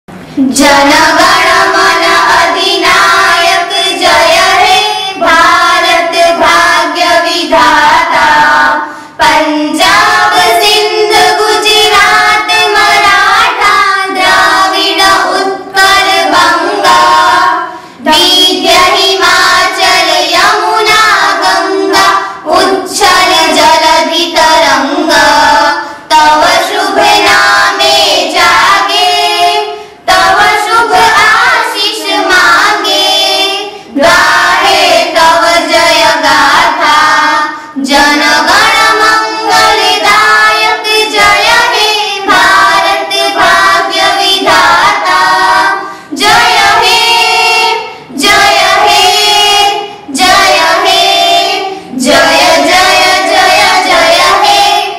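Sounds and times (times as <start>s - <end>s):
girls singing into a microphone: 0.1s - 54.9s.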